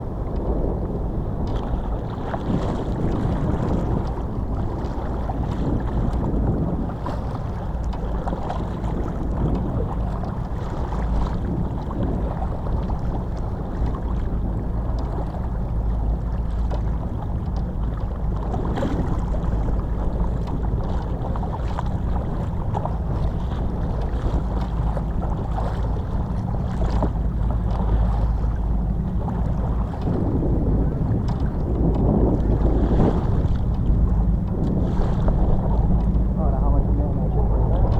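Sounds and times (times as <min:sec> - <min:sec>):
small boat engine rumbling: 0:00.0 - 0:37.9
water noise: 0:00.0 - 0:37.9
wind buffeting microphone: 0:00.0 - 0:37.9.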